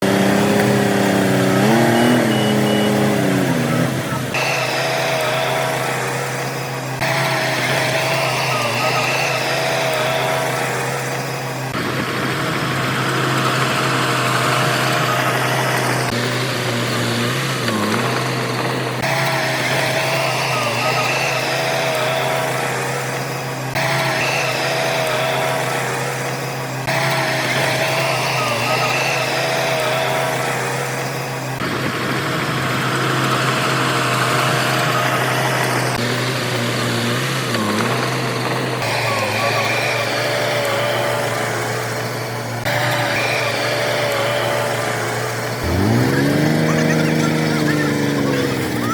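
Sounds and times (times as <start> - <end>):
heavy machinery diesel engine running: 0.0 - 48.9.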